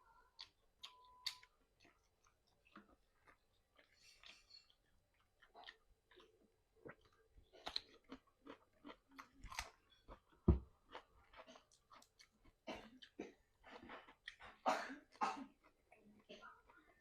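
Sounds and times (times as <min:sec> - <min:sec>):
person chewing and mouth smacking: 0:00.2 - 0:14.6.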